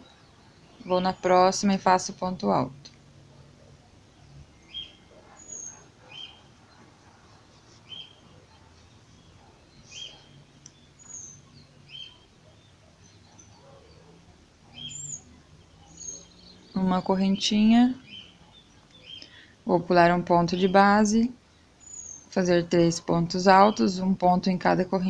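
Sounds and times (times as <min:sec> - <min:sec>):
bird chirping: 0:00.0 - 0:24.8.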